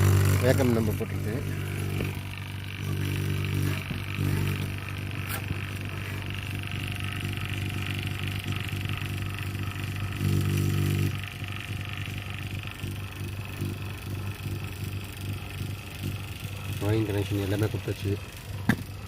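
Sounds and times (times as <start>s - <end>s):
vacuum pump humming: 0.0s - 19.0s.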